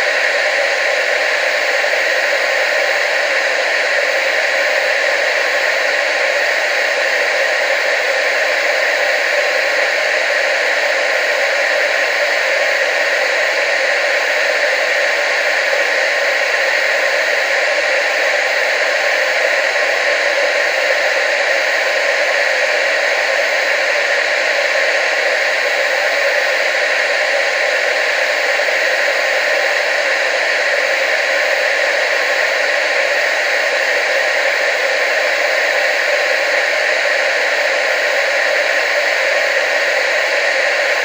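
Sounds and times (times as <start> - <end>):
television static hiss: 0.0 - 41.0.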